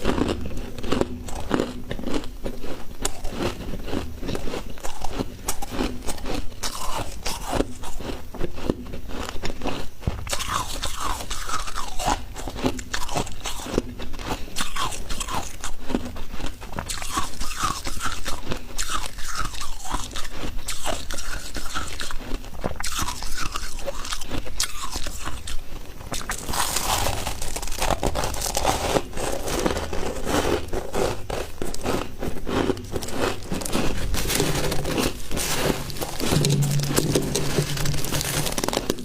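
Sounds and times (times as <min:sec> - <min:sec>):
person chewing frost: 0:00.0 - 0:39.0.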